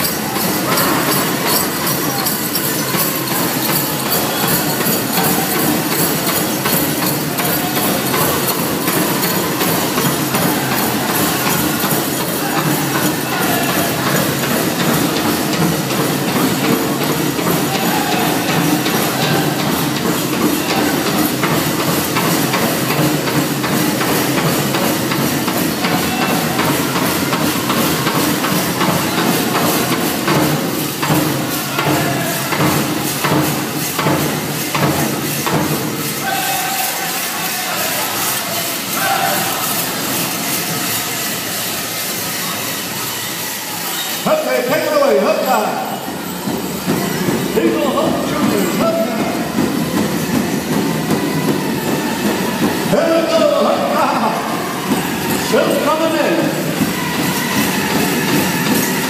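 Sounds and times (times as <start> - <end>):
crowd hubbub: 0.0 - 59.0
drum beaten steadily: 0.0 - 59.0
jingling bells: 0.0 - 59.0.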